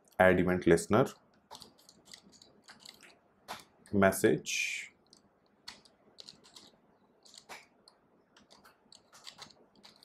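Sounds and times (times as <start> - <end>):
faint keyboard typing: 1.0 - 4.0, 4.9 - 10.0.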